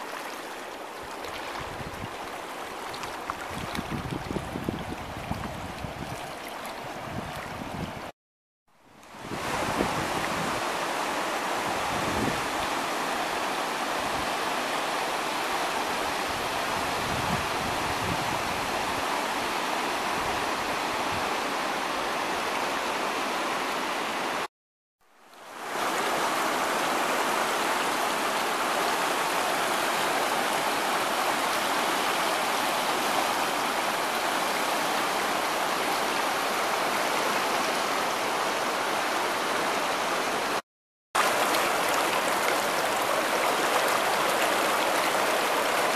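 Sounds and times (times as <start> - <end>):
river current over rocks: 0.0 - 8.1, 8.9 - 24.5, 25.2 - 40.6, 41.2 - 45.9.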